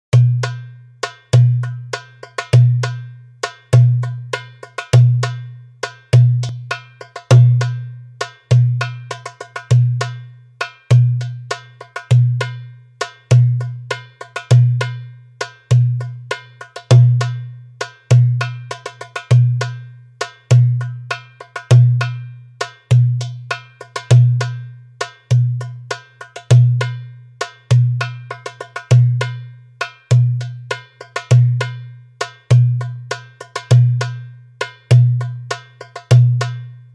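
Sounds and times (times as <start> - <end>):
goblet drum rhythm: 0.1 - 36.7.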